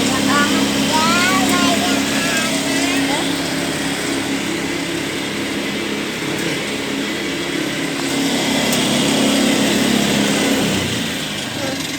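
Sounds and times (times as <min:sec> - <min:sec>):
small engine running: 0:00.0 - 0:11.9.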